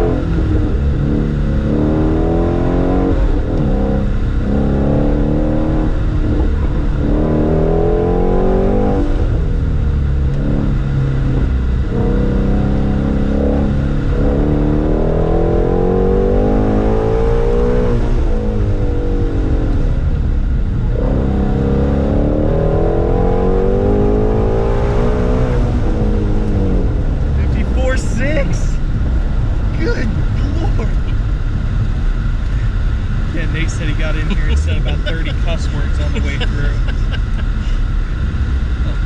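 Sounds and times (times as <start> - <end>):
sports car engine accelerating: 0.0 - 39.0.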